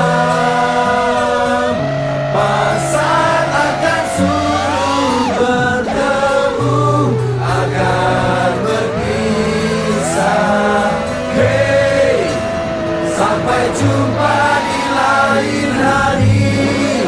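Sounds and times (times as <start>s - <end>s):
held bass notes: 0.0s - 17.0s
person singing a melody: 0.0s - 17.0s.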